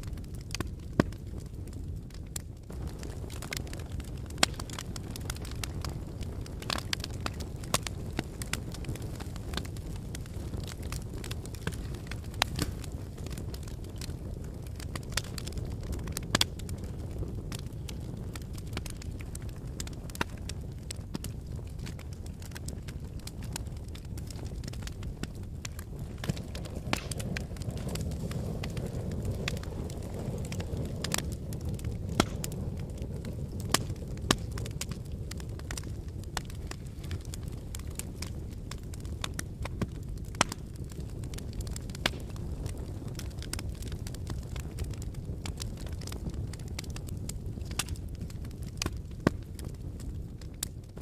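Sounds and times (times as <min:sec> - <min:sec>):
fireplace fire crackling: 0:00.0 - 0:51.0.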